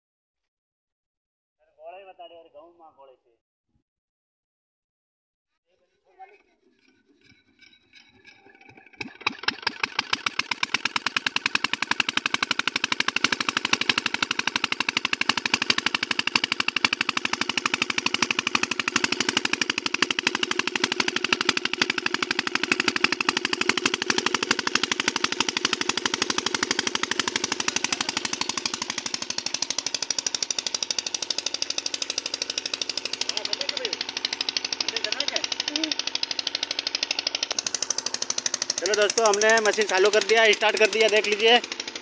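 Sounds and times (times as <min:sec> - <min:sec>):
pump engine knocking: 0:06.4 - 0:42.0.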